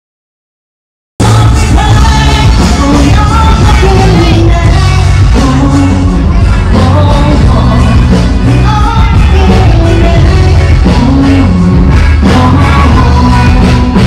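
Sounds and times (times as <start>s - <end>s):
pop music with singing: 1.2s - 14.0s
steady bass line: 1.2s - 14.0s.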